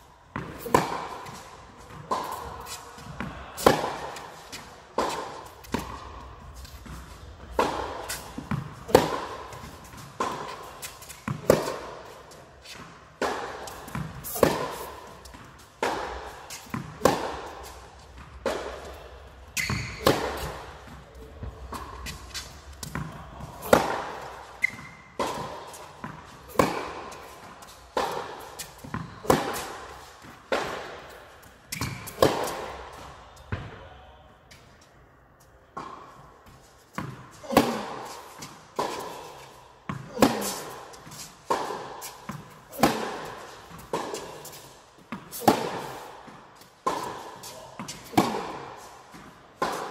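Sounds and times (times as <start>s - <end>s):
racket striking tennis ball: 0.4s - 33.7s, 35.8s - 49.9s.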